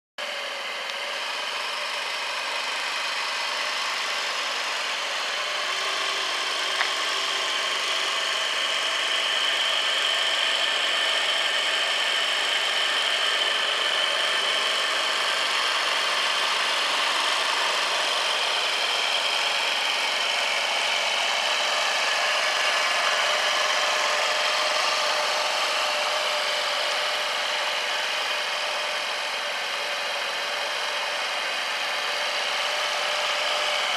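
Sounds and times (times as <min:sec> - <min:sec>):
scooter engine idling: 0:00.2 - 0:33.9.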